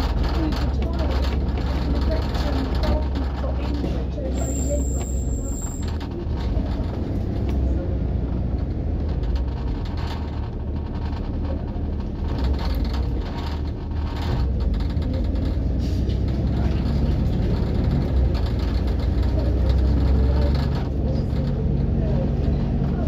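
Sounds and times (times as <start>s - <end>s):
bus engine humming: 0.0s - 23.0s
rattles and clicks: 0.0s - 23.0s.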